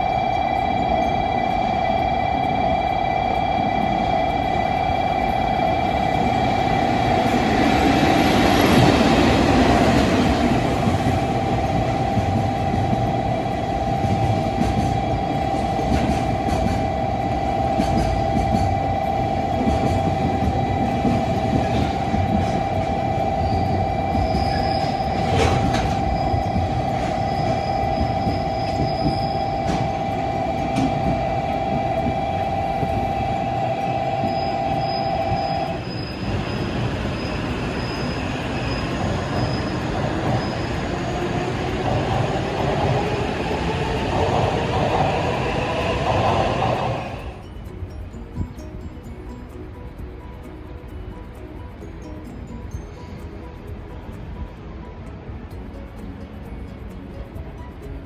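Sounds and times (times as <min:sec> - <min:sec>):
train high steady tone: 0:00.0 - 0:58.0
train rumble: 0:00.0 - 0:58.0.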